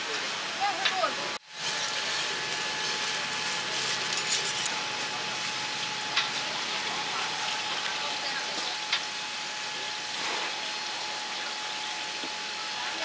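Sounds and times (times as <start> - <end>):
pancakes sizzling on a griddle: 0.6 - 13.0.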